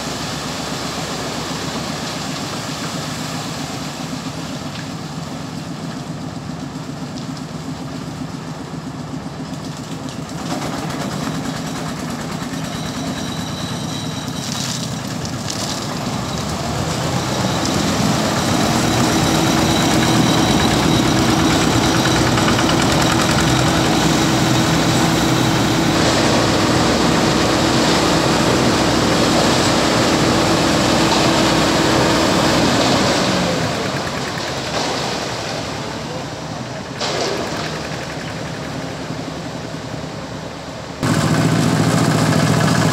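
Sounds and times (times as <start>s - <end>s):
dumper diesel engine: 0.0s - 42.9s
concrete mixer truck drum turning: 1.1s - 40.2s.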